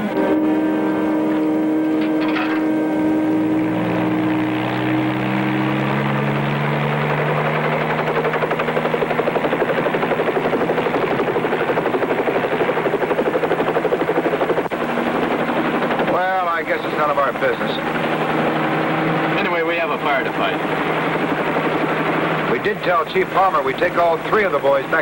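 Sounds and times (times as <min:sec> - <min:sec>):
helicopter engine powering up: 0:00.0 - 0:25.0
helicopter rotor beat: 0:00.0 - 0:25.0.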